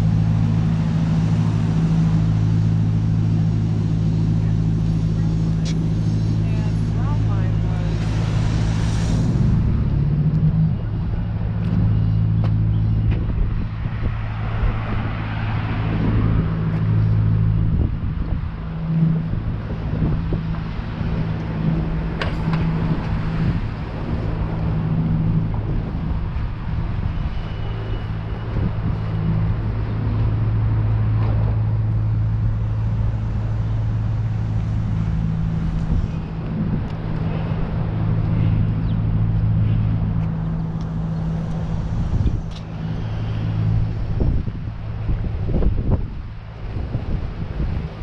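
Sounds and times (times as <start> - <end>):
engine humming: 0.0 - 48.0
street noise: 0.0 - 48.0
wind on microphone: 0.0 - 48.0.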